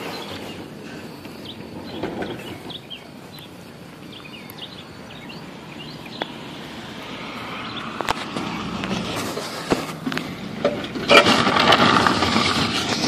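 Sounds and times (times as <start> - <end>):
birds chirping: 0.0 - 11.2
outdoor background hum: 0.0 - 13.0.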